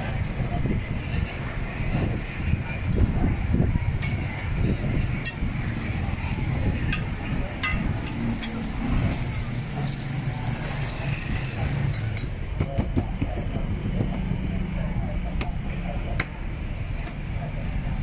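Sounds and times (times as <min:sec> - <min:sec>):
street traffic rumbling: 0:00.0 - 0:18.0.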